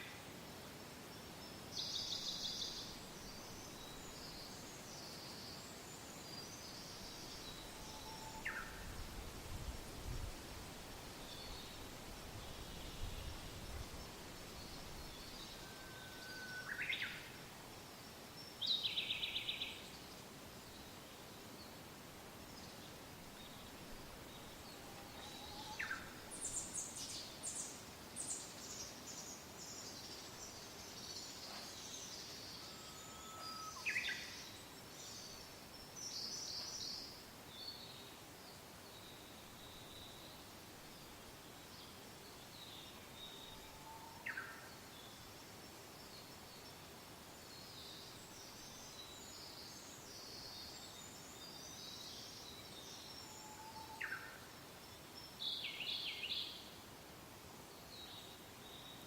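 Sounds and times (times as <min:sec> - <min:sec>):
soft wind: 0:00.0 - 0:59.0.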